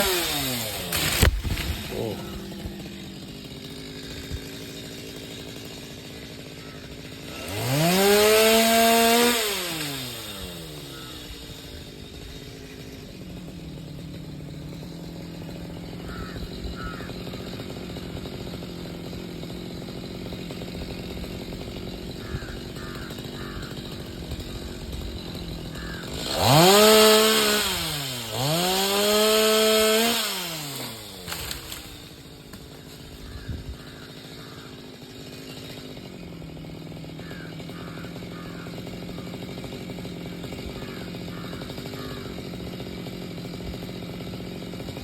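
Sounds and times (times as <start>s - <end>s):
chainsaw idling and revving: 0.0s - 45.0s.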